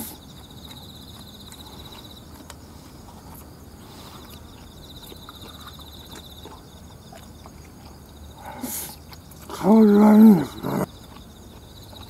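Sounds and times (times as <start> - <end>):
person chewing sticky rice: 0.0 - 12.0.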